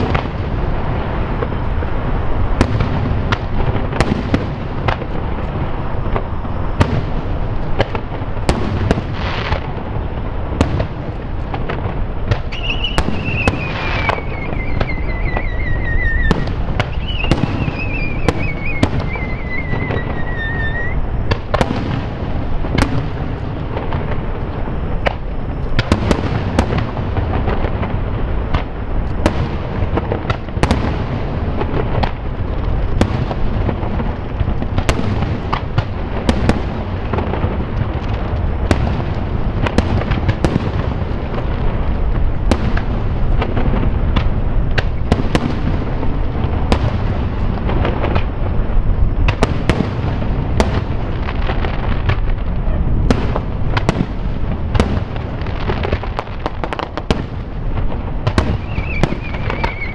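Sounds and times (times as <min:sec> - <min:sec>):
fireworks cracks and bangs: 0:00.0 - 0:59.9
fireworks rumbling: 0:00.0 - 0:59.9.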